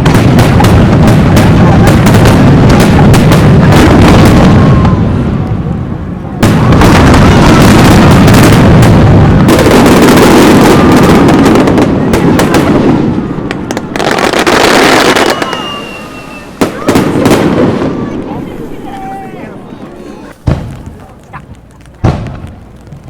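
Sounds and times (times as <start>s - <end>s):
aerial fireworks bursting: 0.0s - 23.0s.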